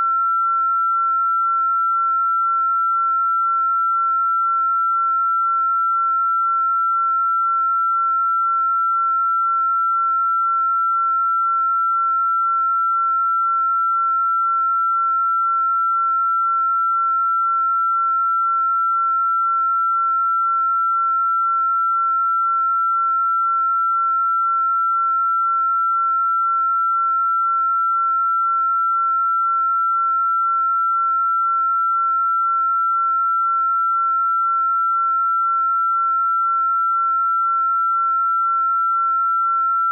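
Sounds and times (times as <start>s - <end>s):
steady sine tone: 0.0s - 39.9s.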